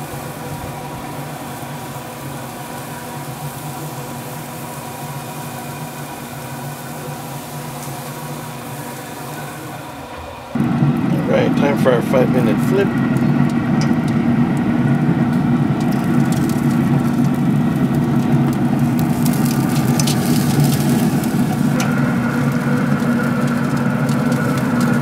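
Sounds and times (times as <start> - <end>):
clicks and crackles on grill: 0.0 - 9.5, 10.6 - 25.0
grill fan humming: 0.0 - 25.0.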